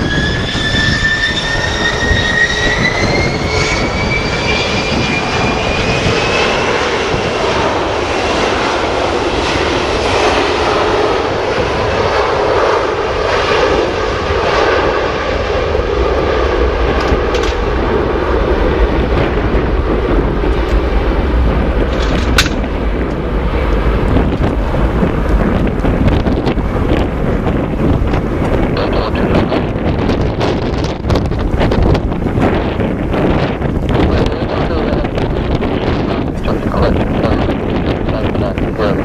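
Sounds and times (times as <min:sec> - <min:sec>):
jet engine whine: 0:00.0 - 0:39.0
loud jet noise with rumble: 0:00.0 - 0:39.0.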